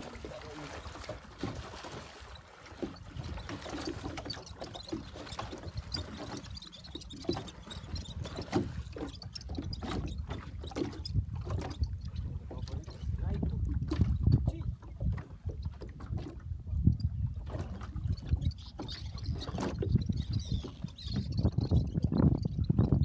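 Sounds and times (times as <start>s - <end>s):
water slapping boat hull: 0.0s - 23.0s.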